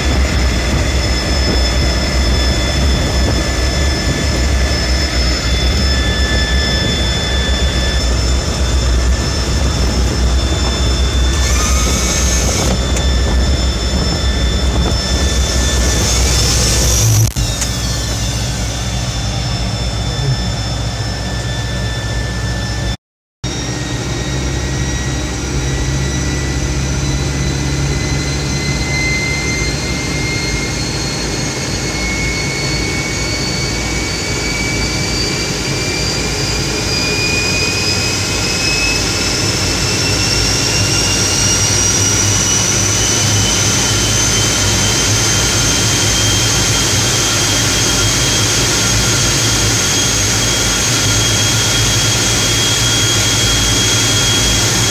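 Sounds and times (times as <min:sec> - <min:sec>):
jet engine whine: 0:00.0 - 0:54.9.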